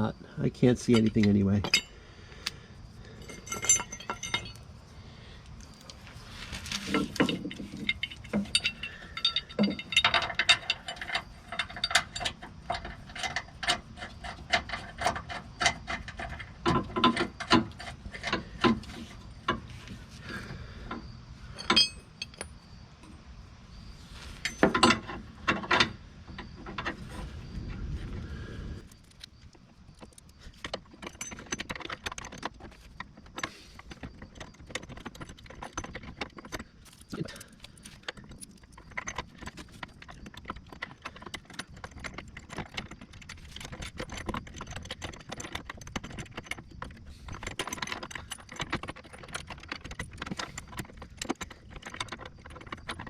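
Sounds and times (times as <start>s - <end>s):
metal parts clinking and rattling: 0.6s - 4.7s, 5.6s - 22.6s, 24.4s - 27.5s, 28.8s - 53.0s.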